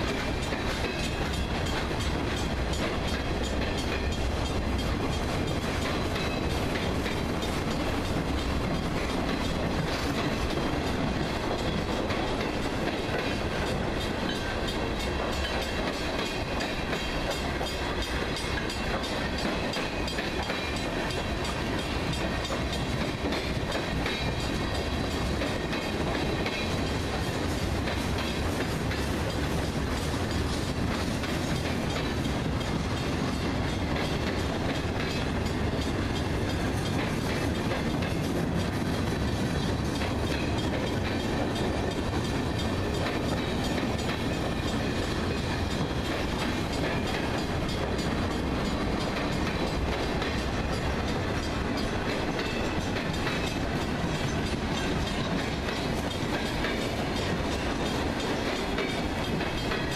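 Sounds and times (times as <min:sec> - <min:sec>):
train wheels on rails: 0:00.0 - 0:59.9
wheels clicking over rail joints: 0:00.0 - 0:59.9.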